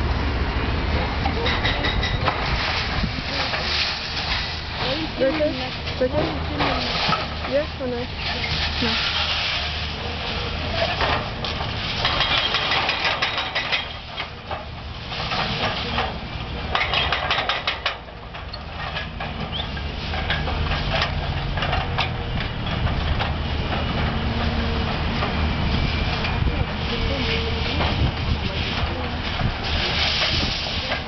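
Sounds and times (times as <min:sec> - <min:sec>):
heavy engine running: 0:00.0 - 0:31.0.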